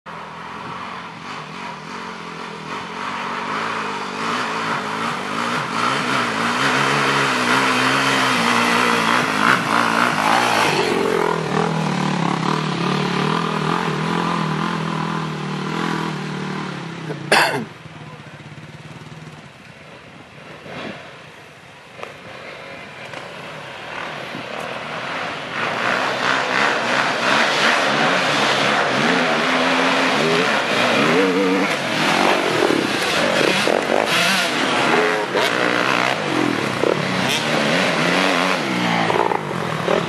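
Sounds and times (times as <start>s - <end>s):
off-road engines revving: 0.2s - 19.5s, 22.0s - 40.0s.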